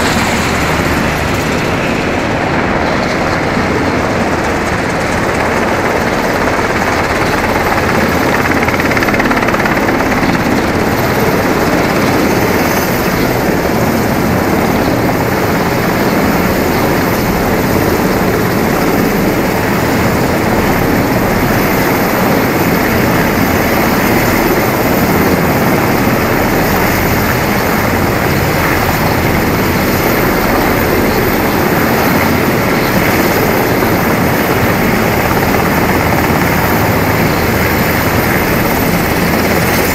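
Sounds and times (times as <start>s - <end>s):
helicopter rotors and turbine: 0.0s - 39.9s.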